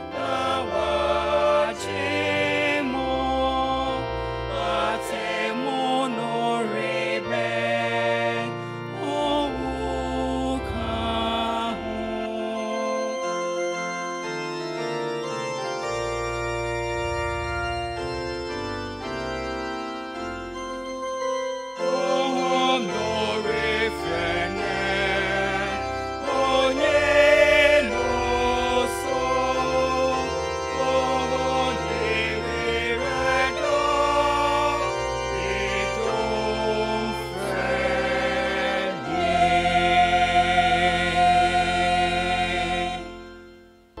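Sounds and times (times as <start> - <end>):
choir singing a hymn: 0.0 - 14.9, 21.7 - 43.6
electronic keyboard: 0.0 - 44.0.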